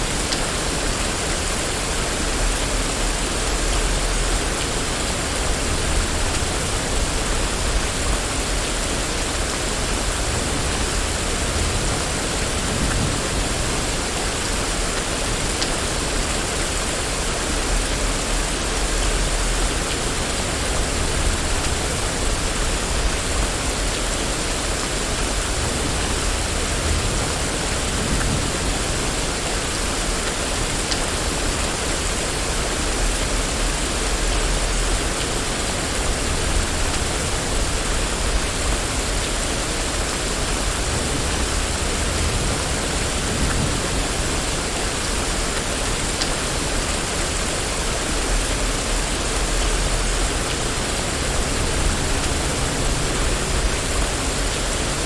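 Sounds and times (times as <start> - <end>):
rain falling on a street: 0.0 - 55.0.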